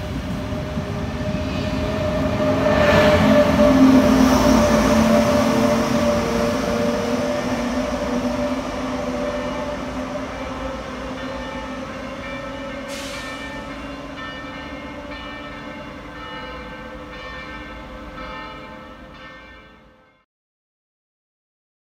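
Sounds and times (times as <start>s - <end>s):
train rumbling on tracks: 0.0s - 19.5s.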